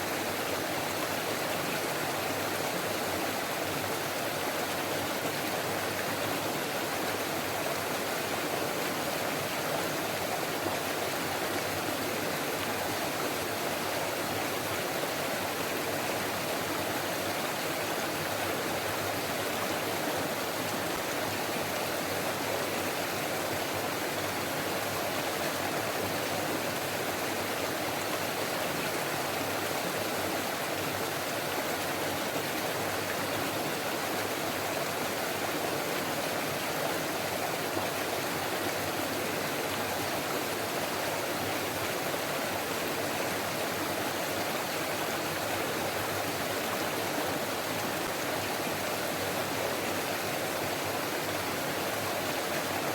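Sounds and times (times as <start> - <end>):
stream water babbling: 0.0 - 52.9.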